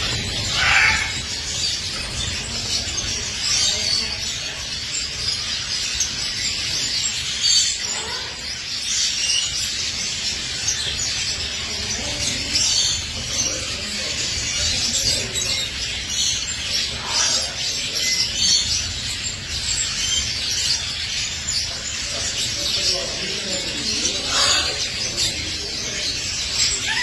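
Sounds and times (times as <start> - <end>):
bird chirping and twittering: 0.0 - 27.0.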